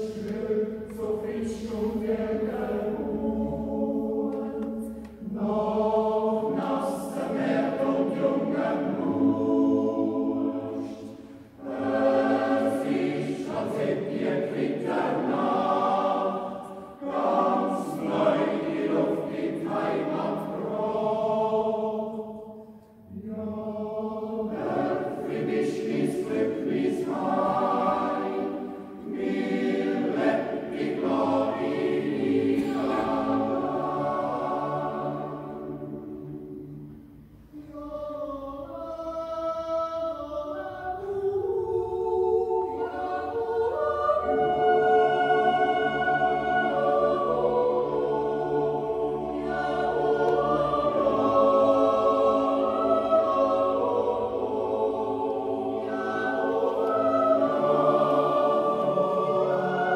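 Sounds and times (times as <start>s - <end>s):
choir yodelling: 0.0s - 37.0s, 37.6s - 59.9s.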